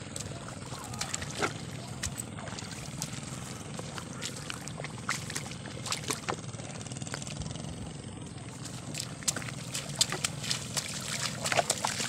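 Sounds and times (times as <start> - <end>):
footsteps splashing in mud: 0.0 - 7.7, 8.5 - 12.0
steady low rumble: 0.0 - 12.0.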